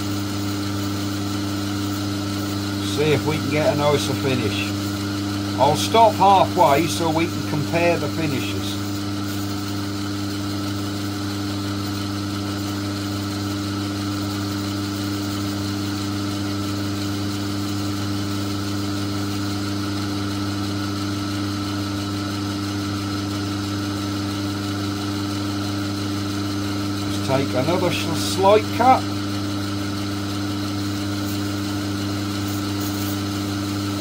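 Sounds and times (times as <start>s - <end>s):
lathe motor humming: 0.0s - 34.0s.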